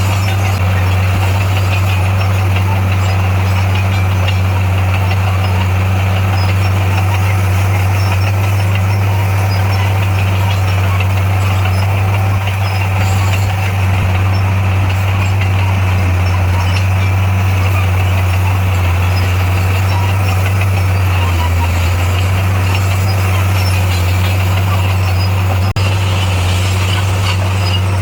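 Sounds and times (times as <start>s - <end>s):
heavy diesel engine droning: 0.0s - 28.0s.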